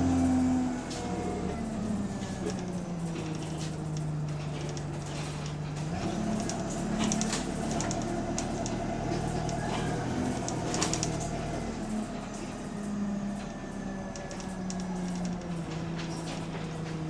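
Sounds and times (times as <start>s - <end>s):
bus engine from inside cabin: 0.0s - 17.0s
interior clicks and rattles: 0.0s - 17.0s.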